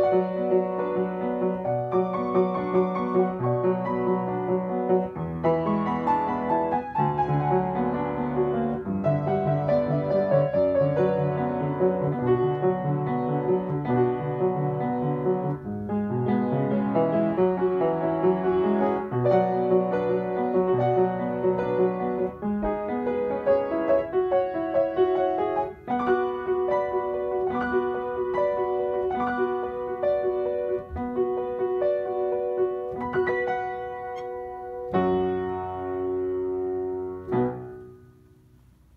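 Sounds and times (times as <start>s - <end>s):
upright piano playing: 0.0s - 38.9s.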